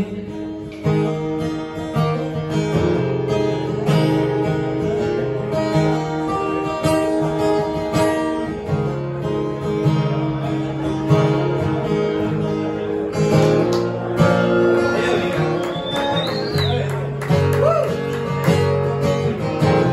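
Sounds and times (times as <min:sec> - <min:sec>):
acoustic guitar strumming chords: 0:00.0 - 0:19.9.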